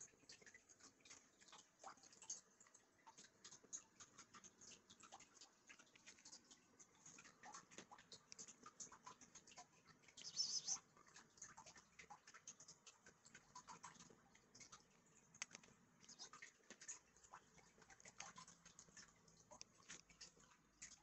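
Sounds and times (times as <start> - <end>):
faint small clicks: 0.0 - 21.0.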